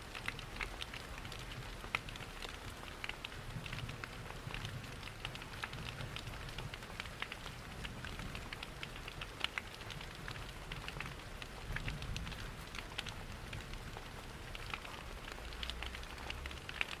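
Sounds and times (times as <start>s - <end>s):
steady rain: 0.0s - 17.0s
wood fire crackling: 0.1s - 17.0s.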